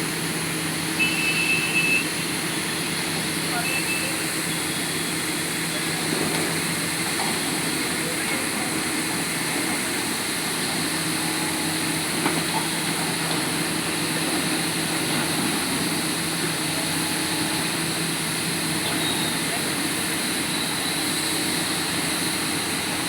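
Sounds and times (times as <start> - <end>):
drilling rig engine running: 0.0 - 23.0.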